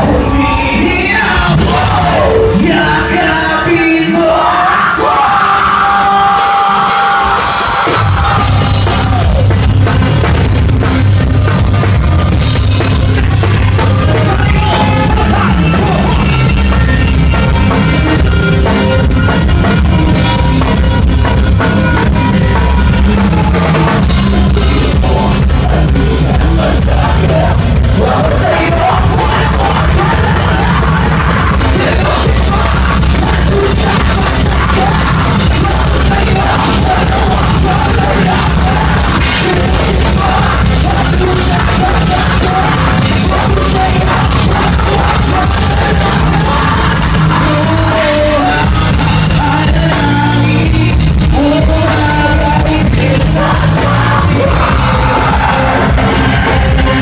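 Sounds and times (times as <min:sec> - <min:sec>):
person singing or shouting: 0:00.0 - 0:09.8, 0:13.2 - 0:20.8, 0:21.6 - 0:57.0
live band playing loud: 0:00.0 - 0:57.0.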